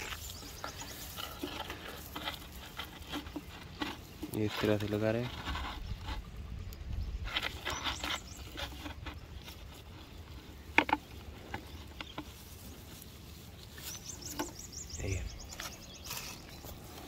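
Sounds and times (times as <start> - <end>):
dry grass rustling and crackling: 0.0 - 17.0.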